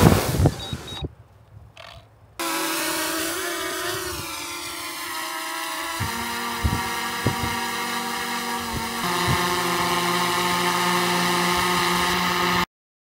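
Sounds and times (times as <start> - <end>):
drone propellers whining: 1.8 - 12.7.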